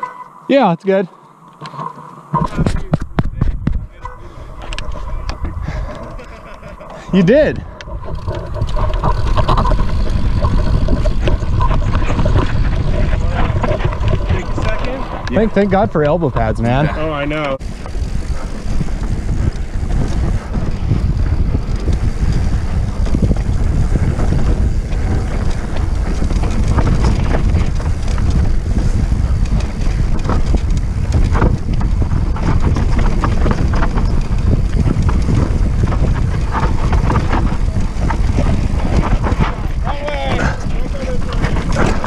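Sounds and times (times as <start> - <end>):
low rumble: 1.2 - 42.0
bike clattering over rough ground: 1.6 - 42.0
wind buffeting microphone: 1.8 - 42.0.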